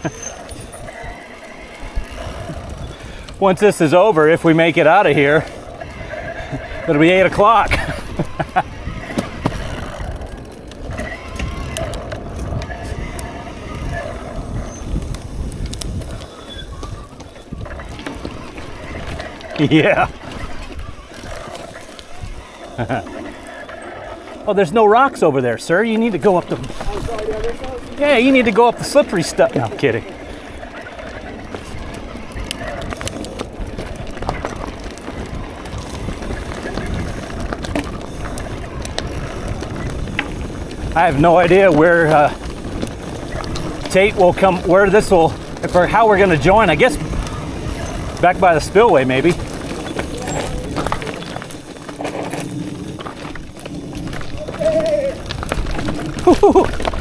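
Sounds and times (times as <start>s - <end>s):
wind on microphone: 0.0s - 24.3s, 25.9s - 57.0s
bike clicks and rattles: 0.0s - 57.0s
tyres rumbling on trail: 0.0s - 57.0s.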